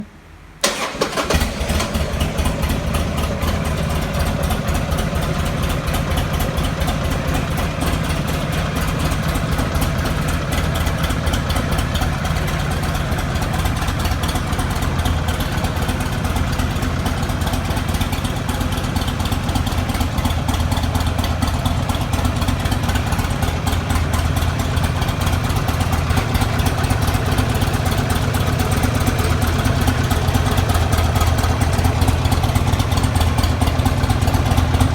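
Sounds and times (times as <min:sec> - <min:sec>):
motorcycle engine idling: 0:01.2 - 0:34.9.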